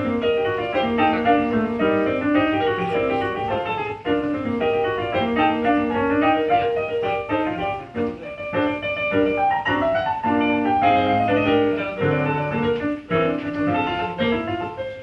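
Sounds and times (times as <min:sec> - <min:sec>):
keyboard piano melody: 0:00.0 - 0:15.0.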